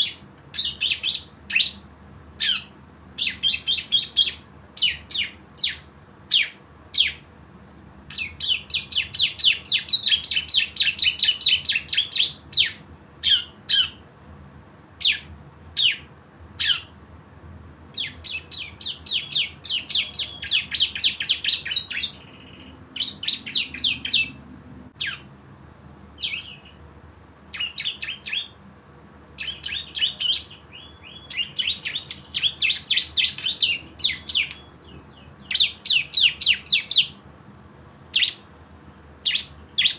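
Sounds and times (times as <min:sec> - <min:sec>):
bird chirps and rattling trills: 0:00.0 - 0:14.1, 0:15.0 - 0:17.0, 0:17.9 - 0:25.3, 0:26.2 - 0:26.9, 0:27.5 - 0:28.6, 0:29.4 - 0:37.2.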